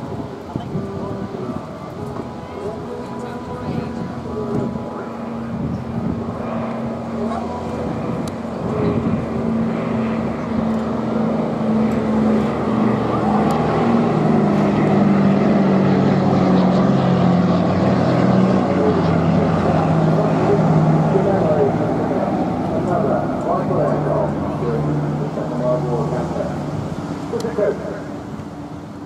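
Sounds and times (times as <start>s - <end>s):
propeller plane flypast: 0.0s - 29.0s.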